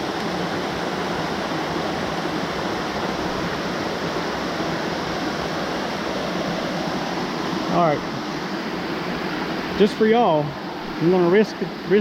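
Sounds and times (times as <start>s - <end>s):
creek water cascading into a pool: 0.0s - 12.0s.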